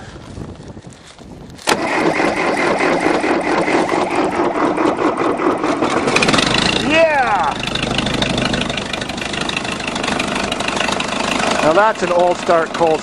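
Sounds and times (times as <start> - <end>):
diesel engine starting and running: 1.6 - 13.0.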